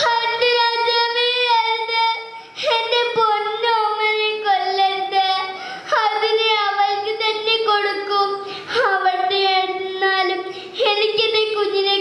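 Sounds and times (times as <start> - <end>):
girl singing into a microphone: 0.0 - 12.0.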